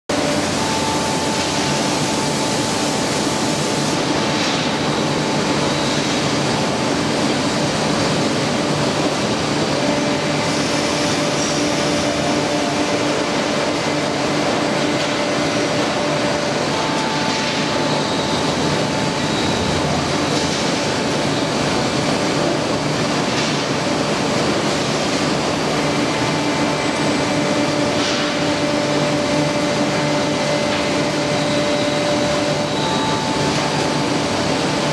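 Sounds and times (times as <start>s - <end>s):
constant machine hiss: 0.1s - 34.9s
palletizing line machinery hum: 0.1s - 34.9s.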